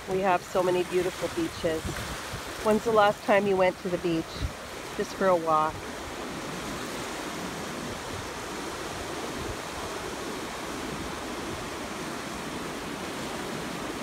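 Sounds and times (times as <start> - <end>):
ocean surf washing on shore: 0.0 - 14.0.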